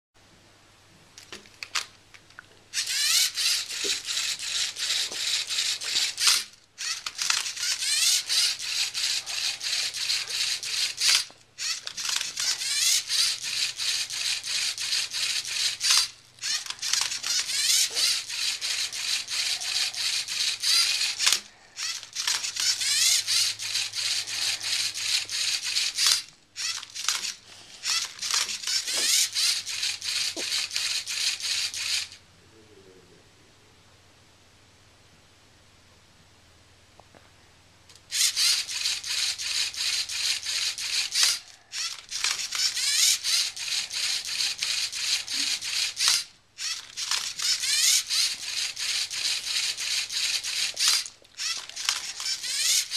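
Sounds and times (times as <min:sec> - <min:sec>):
servo motors whirring: 0:02.8 - 0:32.2, 0:38.0 - 0:52.9.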